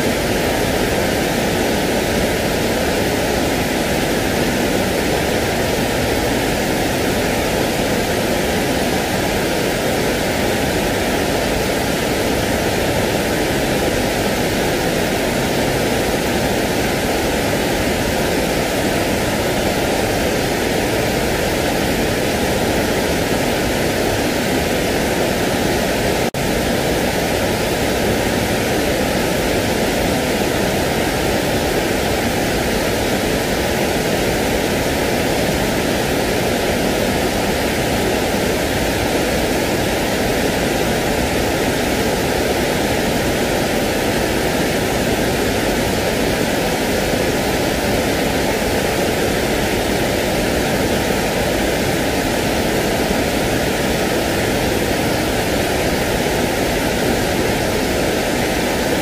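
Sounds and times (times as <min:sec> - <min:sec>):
rushing white noise hiss: 0:00.0 - 0:59.0.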